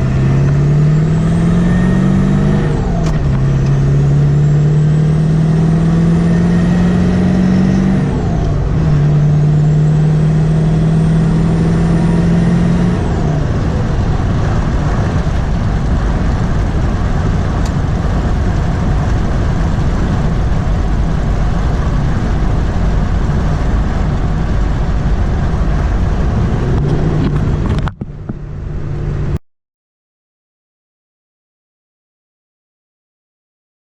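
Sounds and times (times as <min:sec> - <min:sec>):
diesel engine accelerating: 0:00.0 - 0:29.4
road noise: 0:00.0 - 0:29.4.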